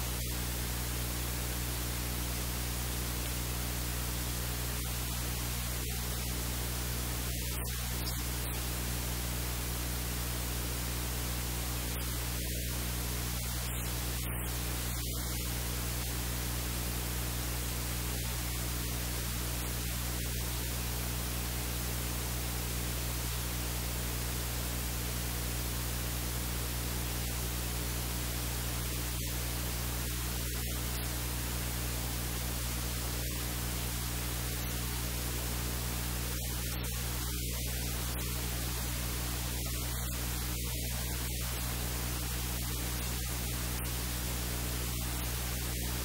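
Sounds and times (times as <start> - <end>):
low electrical hum: 0.0 - 46.0
static hiss: 0.0 - 46.0.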